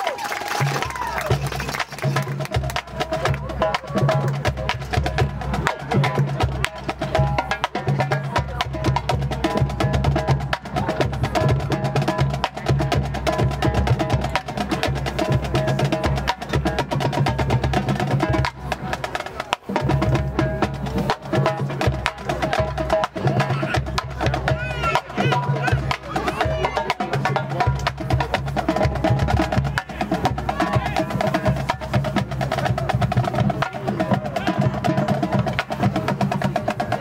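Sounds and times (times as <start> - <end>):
marching band held notes: 0.1 - 37.0
drums and mallet percussion: 0.5 - 37.0.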